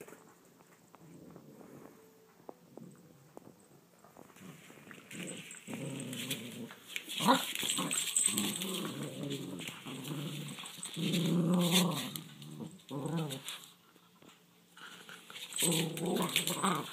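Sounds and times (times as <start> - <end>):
dogs growling in play: 0.9 - 3.5, 4.2 - 14.0, 14.8 - 16.9.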